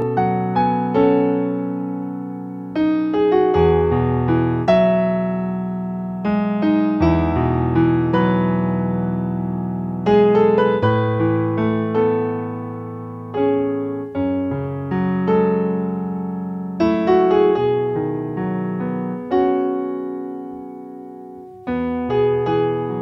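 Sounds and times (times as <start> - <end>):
slow gentle piano piece: 0.0 - 23.0.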